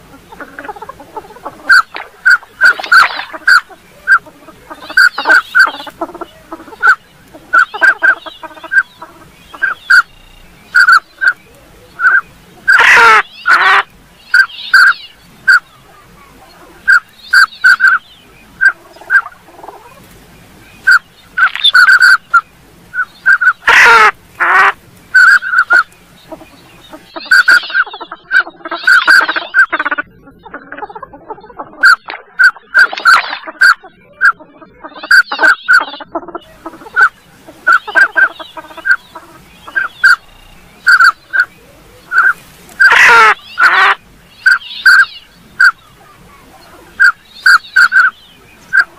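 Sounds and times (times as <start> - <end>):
duck whistling calls: 0.3 - 11.4, 12.0 - 15.7, 16.8 - 19.4, 20.8 - 48.9.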